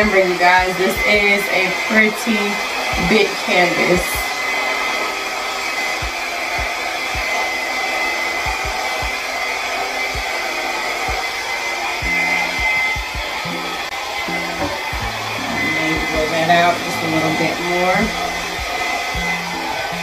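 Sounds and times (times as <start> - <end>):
blow dryer running: 0.0 - 20.0.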